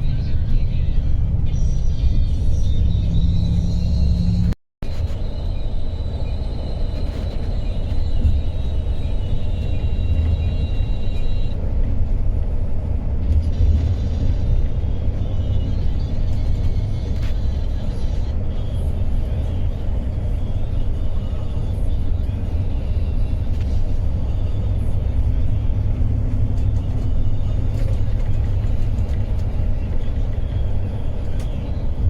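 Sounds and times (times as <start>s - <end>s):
coach engine rumble from inside: 0.0s - 32.0s.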